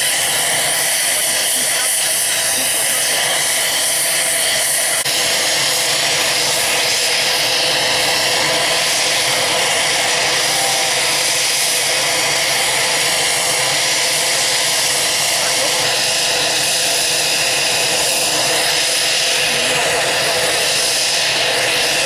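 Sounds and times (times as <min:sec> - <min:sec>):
helicopter turbine running: 0:00.0 - 0:22.0.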